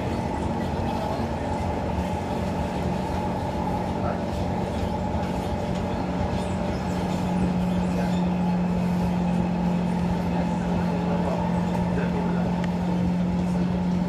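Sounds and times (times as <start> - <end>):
constant low hum: 0.0 - 14.0
train running rumble: 0.0 - 14.0.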